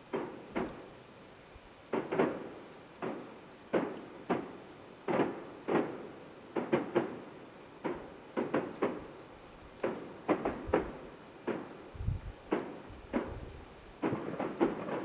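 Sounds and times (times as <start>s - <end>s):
distant fireworks bursts: 0.1s - 1.0s, 1.9s - 15.0s.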